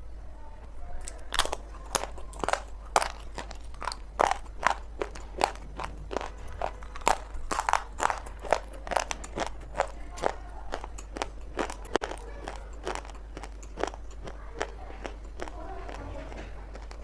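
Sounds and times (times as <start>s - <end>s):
crunching and chewing clay: 0.9s - 17.0s.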